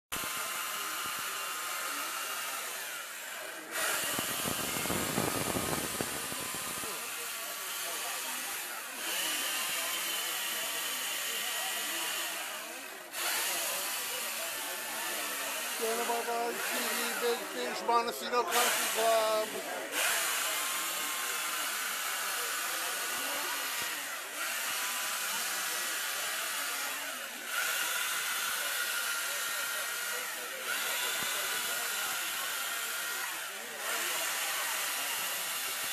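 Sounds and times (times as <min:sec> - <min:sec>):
chainsaw cutting ice: 0:00.1 - 0:35.9
hissing ice spray: 0:00.2 - 0:35.9.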